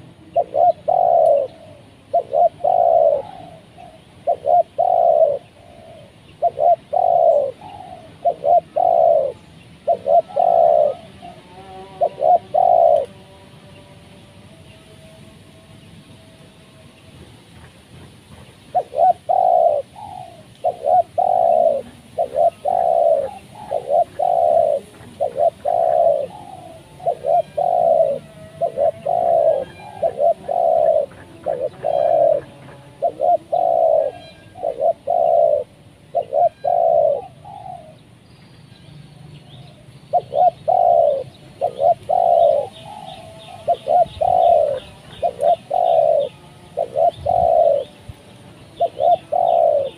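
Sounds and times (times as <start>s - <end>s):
dove cooing: 0.0s - 13.2s, 18.7s - 38.1s, 39.7s - 49.9s.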